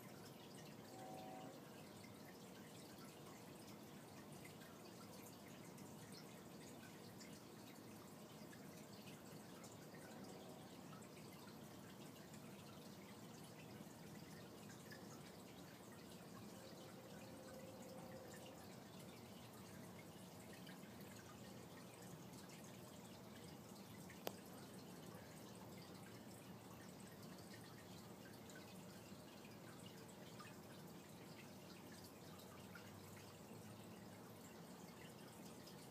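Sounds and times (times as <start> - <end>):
aquarium water trickling: 0.0 - 35.9.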